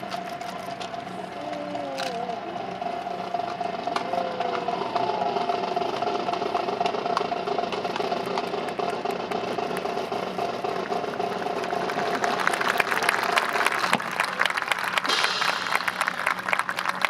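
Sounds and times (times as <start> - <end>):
steady engine-like hum: 0.0 - 17.0.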